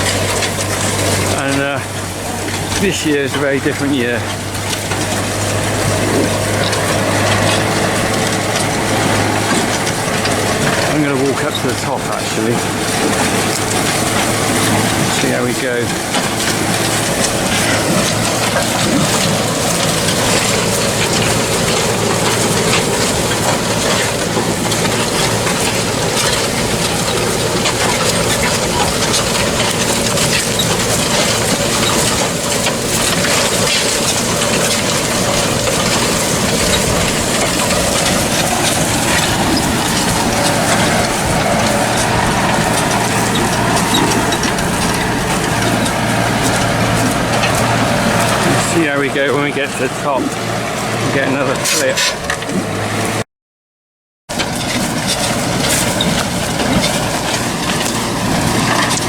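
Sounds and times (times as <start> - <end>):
footsteps crunching on dry soil: 0.0 - 53.2, 54.3 - 59.0
tractor engine under load: 0.0 - 53.2, 54.3 - 59.0.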